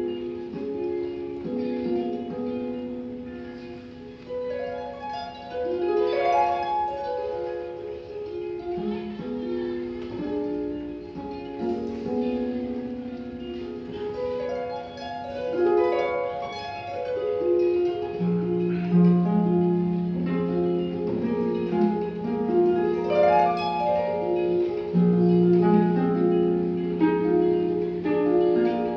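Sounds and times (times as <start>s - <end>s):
harp plucked notes: 0.0s - 28.9s.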